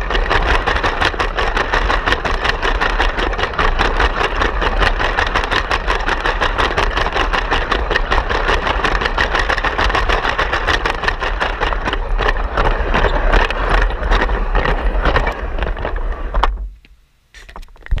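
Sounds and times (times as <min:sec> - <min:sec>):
toy train motor whirring: 0:00.0 - 0:16.2
plastic wheels clattering on track: 0:00.0 - 0:16.7.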